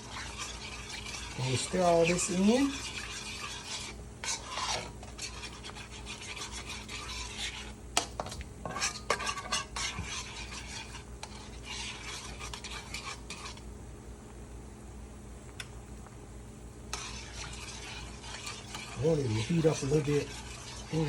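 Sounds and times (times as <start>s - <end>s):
spoon scraping pan: 0.0s - 13.6s, 16.9s - 21.0s.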